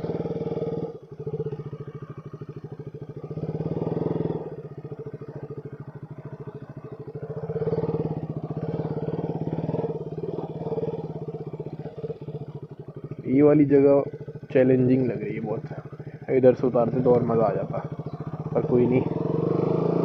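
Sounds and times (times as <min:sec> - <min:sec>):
motorcycle engine at low revs: 0:00.0 - 0:20.0.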